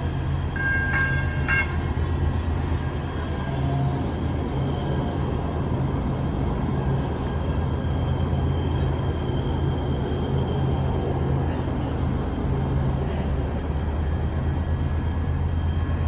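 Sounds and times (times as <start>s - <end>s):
light rail train rumbling: 0.0s - 16.0s.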